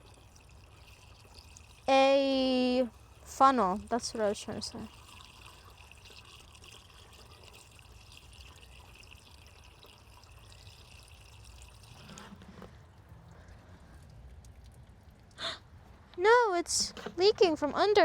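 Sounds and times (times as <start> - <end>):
fluid trickling into reservoir: 0.0 - 16.0.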